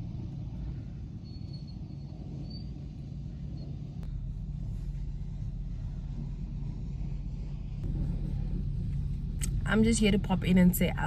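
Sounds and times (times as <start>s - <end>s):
car rumbling: 0.0s - 11.0s.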